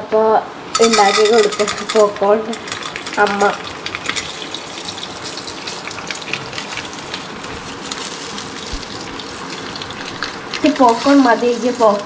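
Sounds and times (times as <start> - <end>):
popcorn kernels sizzling in oil: 0.8 - 12.0.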